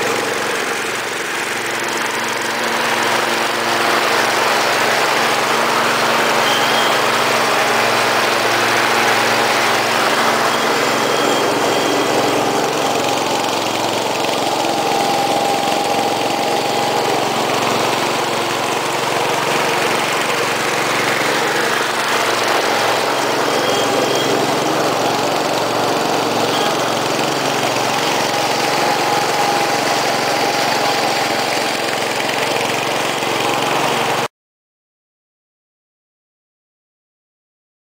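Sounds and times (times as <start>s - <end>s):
ride-on mower engine running: 0.0s - 34.3s.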